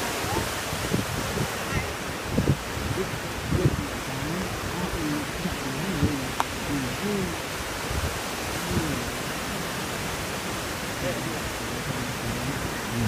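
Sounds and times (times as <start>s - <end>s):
men's voices murmuring: 0.0s - 13.0s
steady rushing hiss: 0.0s - 13.0s.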